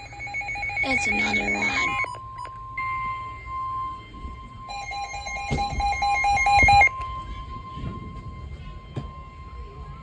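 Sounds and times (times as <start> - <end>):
rapid beeping: 0.0 - 10.0
steady alarm tone: 0.0 - 10.0.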